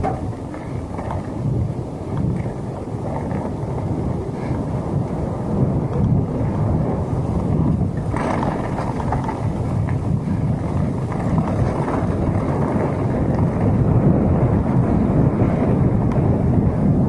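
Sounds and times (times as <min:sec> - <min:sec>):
tyres rumbling over dirt: 0:00.0 - 0:17.0
wind buffeting microphone: 0:00.0 - 0:17.0.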